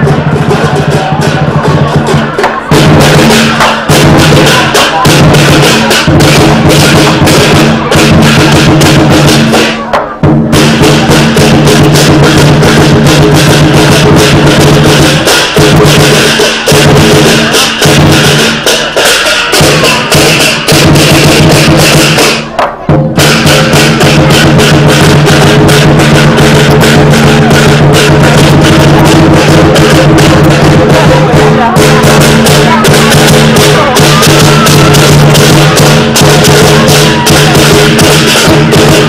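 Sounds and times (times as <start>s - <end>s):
big drum beating: 0.0s - 39.0s
clashing cymbals: 0.0s - 39.0s.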